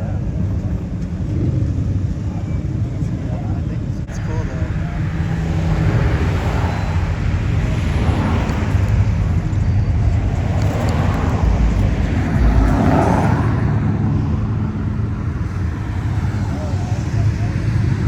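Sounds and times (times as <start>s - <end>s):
car engines rumbling past: 0.0s - 18.0s.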